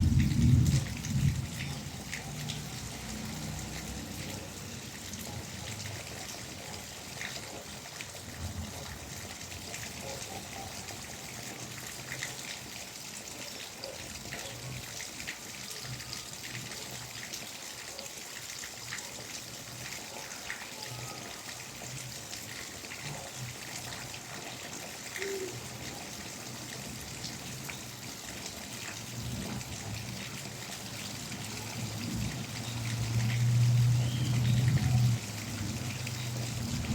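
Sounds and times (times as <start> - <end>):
rain falling: 0.0 - 36.9
water trickling: 0.0 - 36.9.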